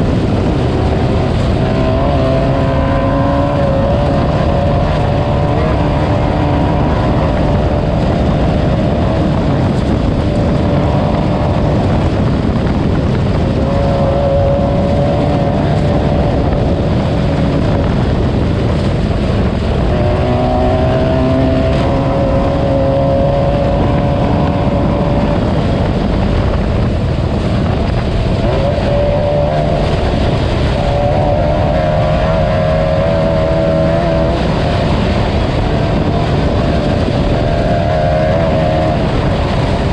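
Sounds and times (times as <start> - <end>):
race car engine revving: 0.0 - 39.9
rough noise of moving car: 0.0 - 39.9.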